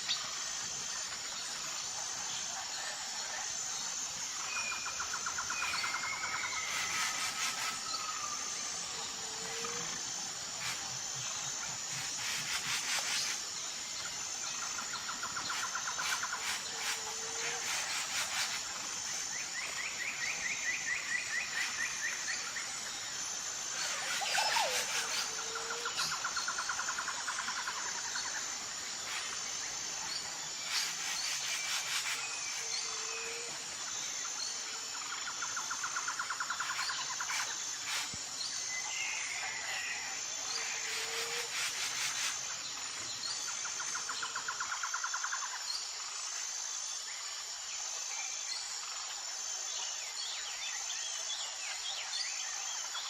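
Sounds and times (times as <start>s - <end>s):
pulsing insect drone: 0.0s - 53.0s.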